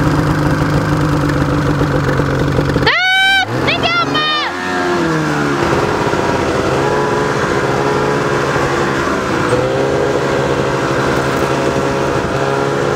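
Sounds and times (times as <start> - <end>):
snowmobile engine running: 0.0 - 12.9.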